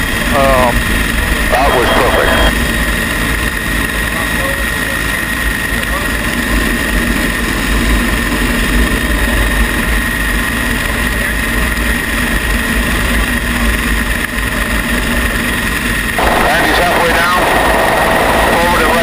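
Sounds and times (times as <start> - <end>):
helicopter hovering: 0.0 - 19.0.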